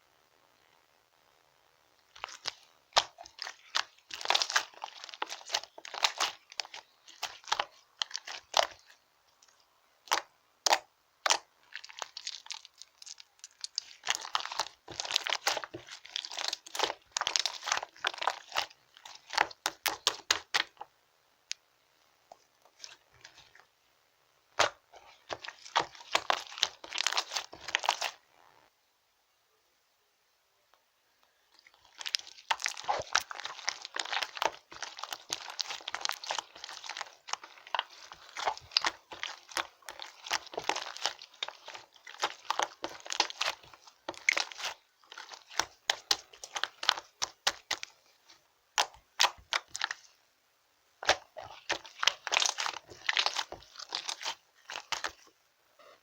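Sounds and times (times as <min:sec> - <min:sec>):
slime crackling and popping: 0:02.1 - 0:21.6, 0:24.5 - 0:28.2, 0:31.4 - 0:50.2, 0:51.0 - 0:56.0.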